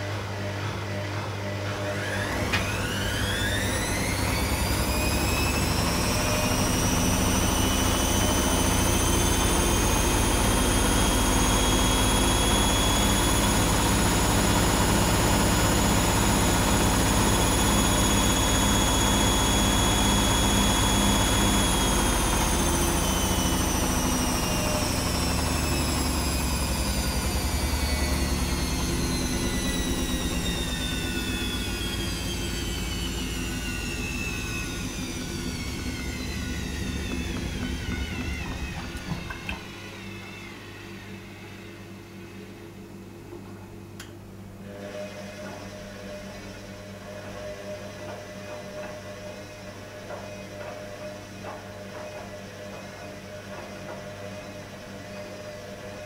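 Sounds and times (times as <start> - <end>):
washing machine drum whining: 0.0 - 56.0.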